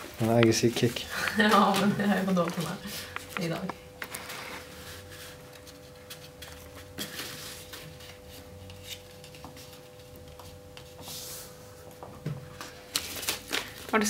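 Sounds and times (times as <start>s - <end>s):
faint steady hum: 0.0s - 14.0s
paper rustling: 0.2s - 11.6s, 12.6s - 14.0s.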